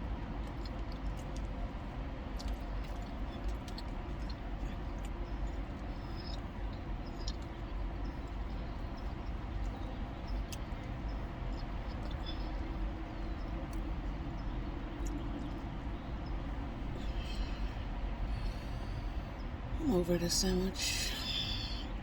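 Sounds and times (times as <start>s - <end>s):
car cabin engine rumble: 0.0s - 22.0s.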